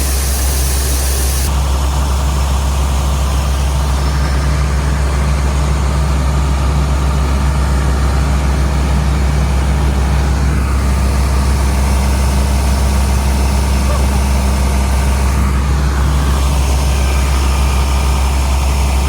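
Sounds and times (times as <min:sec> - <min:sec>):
combine harvester engine humming: 0:00.0 - 0:19.0.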